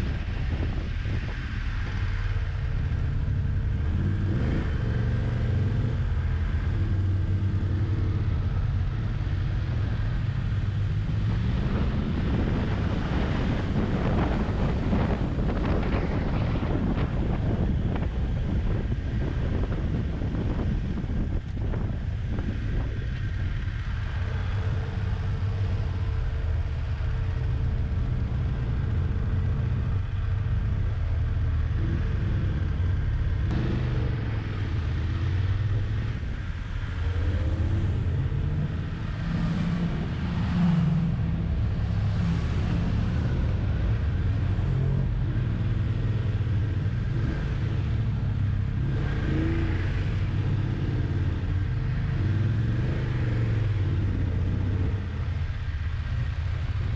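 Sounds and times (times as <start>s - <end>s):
motorcycle engine rumbling: 0.0s - 56.9s.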